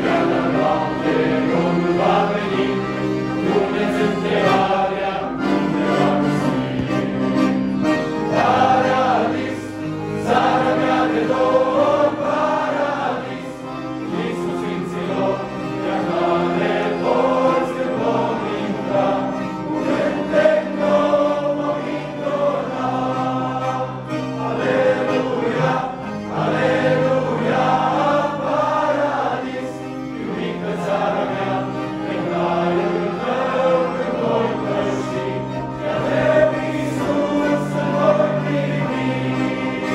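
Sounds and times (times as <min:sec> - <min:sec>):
accordions holding chords: 0:00.0 - 0:39.9
young men's choir singing hymn: 0:00.0 - 0:39.9.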